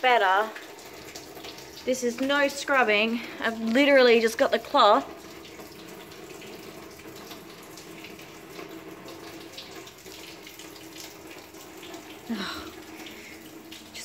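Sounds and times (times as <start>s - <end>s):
running water in bathtub: 0.0s - 14.0s.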